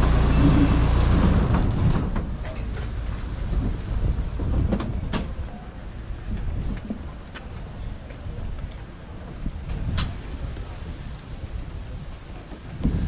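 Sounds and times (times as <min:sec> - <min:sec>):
trolley rumble: 0:00.0 - 0:13.0.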